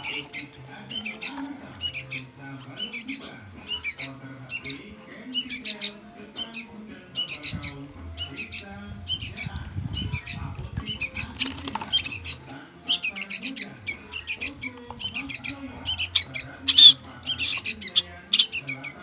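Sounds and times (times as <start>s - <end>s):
young birds squawking begging calls: 0.0s - 19.0s.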